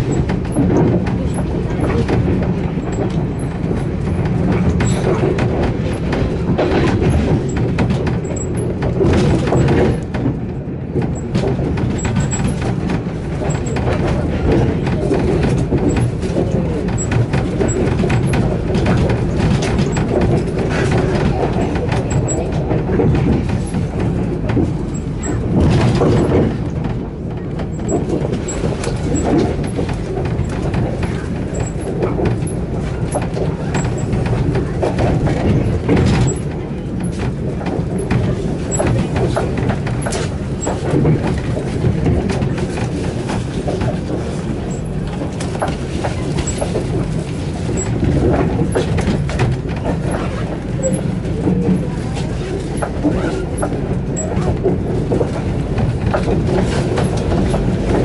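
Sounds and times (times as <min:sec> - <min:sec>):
train knocks: 0:00.0 - 0:58.0
train wheels rumbling on track: 0:00.0 - 0:58.0.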